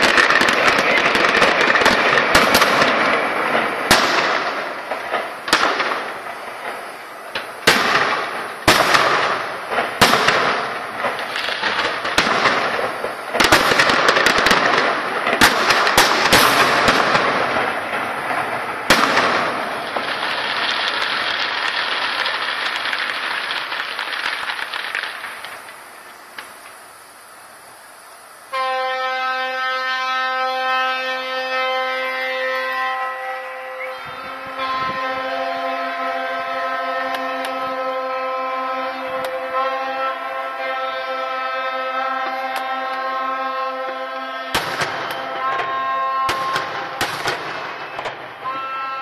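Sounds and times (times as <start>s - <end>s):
fireworks shells bursting: 0.0s - 27.8s, 28.4s - 49.0s
crackling of fireworks embers: 0.0s - 49.0s.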